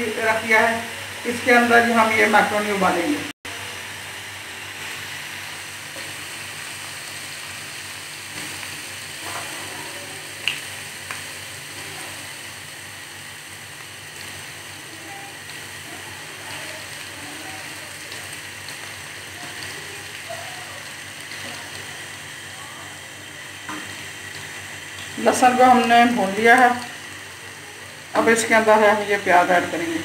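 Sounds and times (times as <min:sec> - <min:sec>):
garlic sizzling in hot oil: 0:00.0 - 0:30.0.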